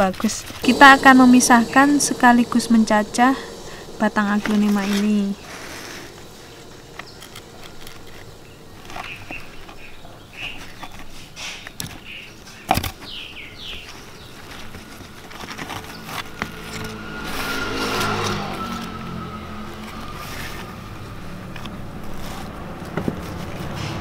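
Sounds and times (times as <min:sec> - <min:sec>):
motor vehicle: 0:00.0 - 0:24.0.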